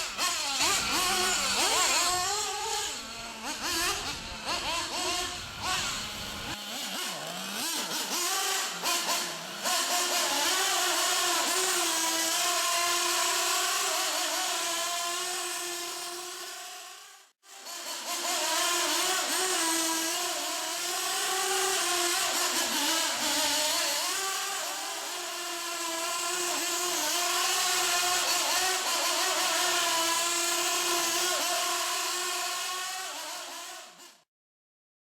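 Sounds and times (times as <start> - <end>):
miniature gasoline engine running: 0.0 - 34.2.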